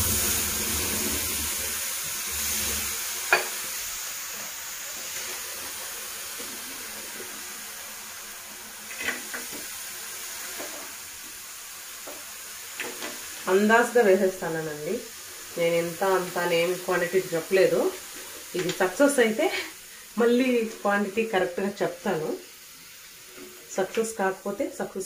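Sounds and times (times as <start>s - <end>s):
water hissing in a pan: 0.0s - 25.0s.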